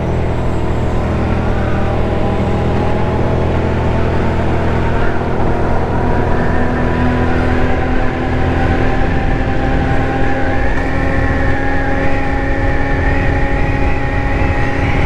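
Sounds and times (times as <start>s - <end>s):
scooter engine running: 0.0s - 15.0s
wind rumble on microphone: 0.0s - 15.0s.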